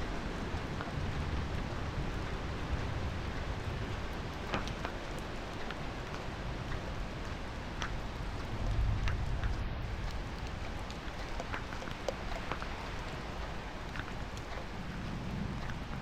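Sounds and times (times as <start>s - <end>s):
light rain hissing: 0.0s - 16.0s
raindrops ticking: 0.0s - 16.0s.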